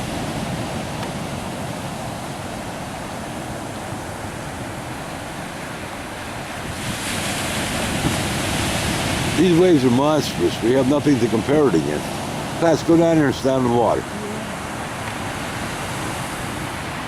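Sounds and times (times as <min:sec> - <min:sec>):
ocean waves breaking: 0:00.0 - 0:17.0
wind buffeting microphone: 0:00.0 - 0:17.0.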